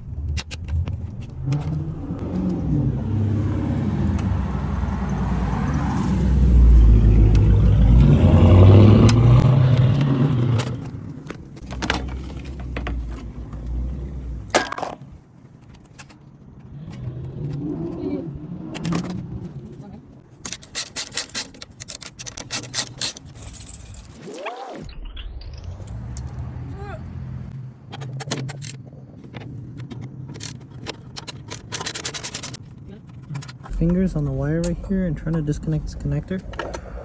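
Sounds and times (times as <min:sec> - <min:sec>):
vehicle engine: 0:00.0 - 0:20.6, 0:22.2 - 0:37.0.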